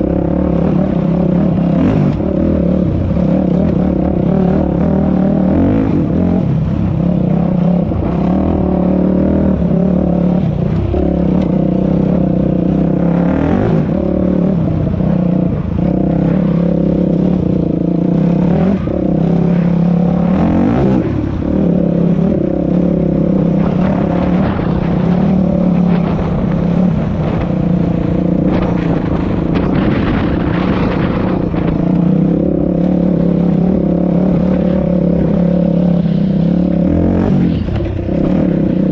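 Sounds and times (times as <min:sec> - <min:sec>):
dirt bike engine: 0:00.0 - 0:38.9.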